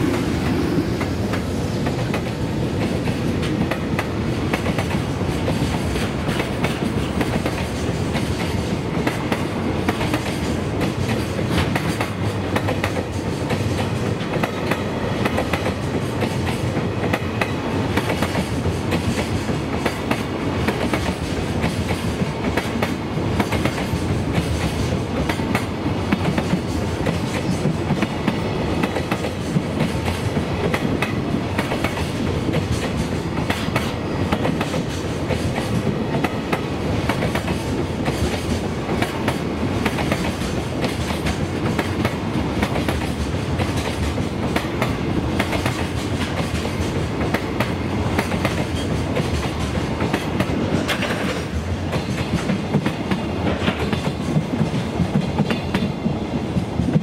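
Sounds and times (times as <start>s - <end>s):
steel wheels rumbling on rails: 0.0s - 57.0s
wheels clicking over rail joints: 1.0s - 57.0s.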